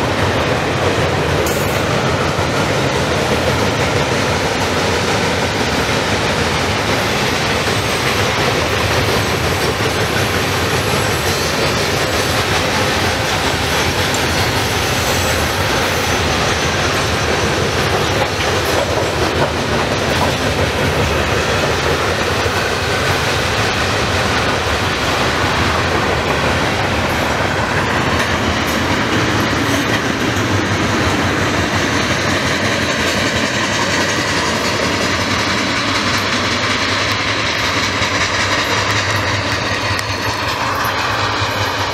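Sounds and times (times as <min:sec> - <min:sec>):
freight train wheels rumbling: 0:00.0 - 0:41.9.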